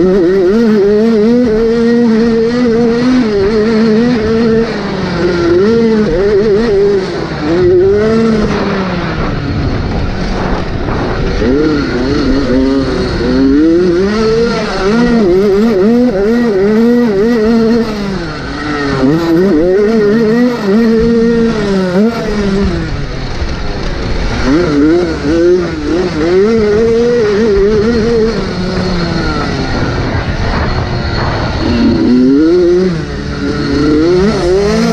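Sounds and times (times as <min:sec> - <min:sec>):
motocross engines revving: 0:00.0 - 0:34.9.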